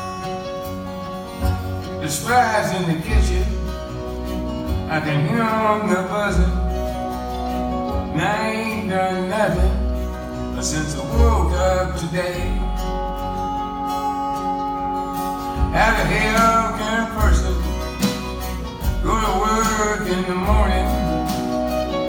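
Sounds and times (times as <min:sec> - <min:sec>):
bending lead melody line: 0:00.0 - 0:22.0
deep bass notes: 0:00.0 - 0:22.0
strummed acoustic guitar: 0:00.0 - 0:22.0.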